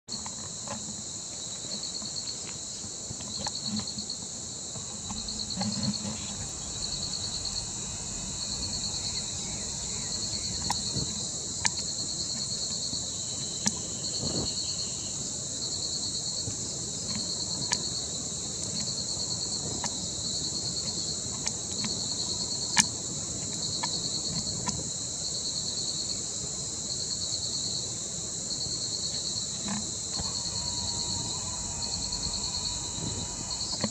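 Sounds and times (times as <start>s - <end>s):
insects droning: 0.1s - 33.9s
pulsing insect trill: 0.1s - 33.9s.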